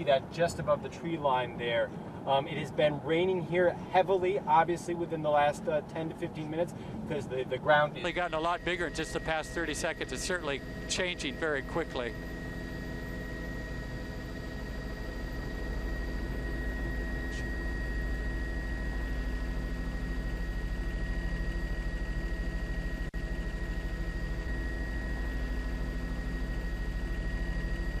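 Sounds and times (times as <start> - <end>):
helicopter rotor beat: 0.0 - 28.0
mechanical whine: 0.0 - 28.0.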